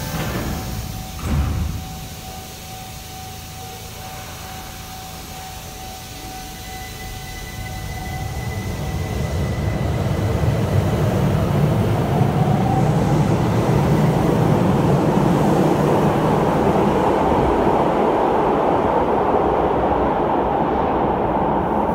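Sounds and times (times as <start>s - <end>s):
train rumbling in tunnel: 0.0s - 21.9s.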